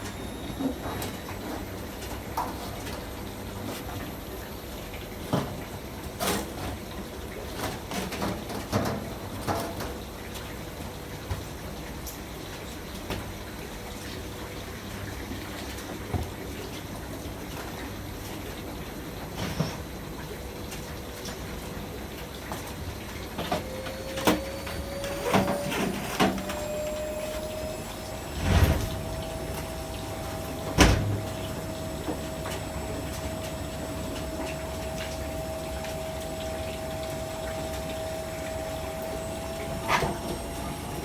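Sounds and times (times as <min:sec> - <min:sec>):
washing machine motor whine: 0:00.0 - 0:41.0.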